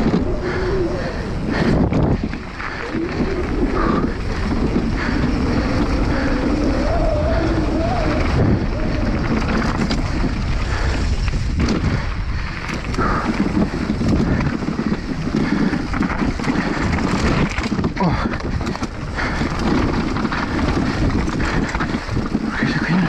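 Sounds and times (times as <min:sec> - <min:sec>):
mountain bike rumbling over rough ground: 0:00.0 - 0:23.0
wind buffeting microphone: 0:00.0 - 0:23.0.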